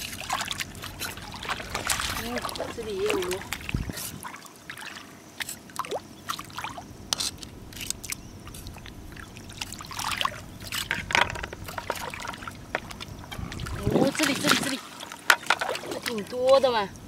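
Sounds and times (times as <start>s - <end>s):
seawater sloshing and trickling: 0.0s - 17.0s
water splashing: 0.0s - 17.0s.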